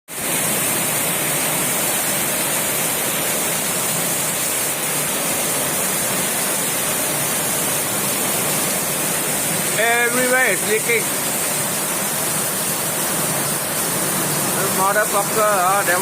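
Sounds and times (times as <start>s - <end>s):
heavy rain falling: 0.1s - 16.0s.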